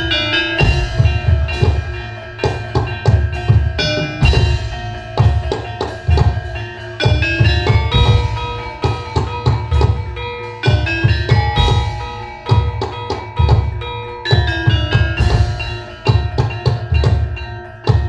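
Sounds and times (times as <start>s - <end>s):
hand drums beating: 0.0s - 18.0s
metallophones and gongs ringing: 0.0s - 18.0s.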